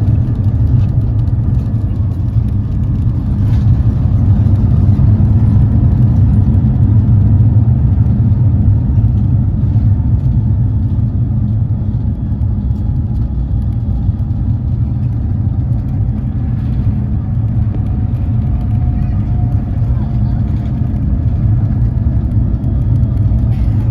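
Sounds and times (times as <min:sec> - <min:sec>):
airplane cabin engine rumble: 0:00.0 - 0:23.9.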